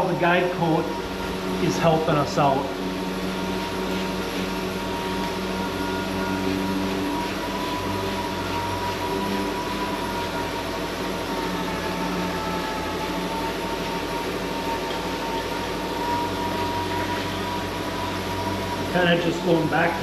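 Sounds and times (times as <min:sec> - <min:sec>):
machine hum with high whine: 0:00.0 - 0:20.0.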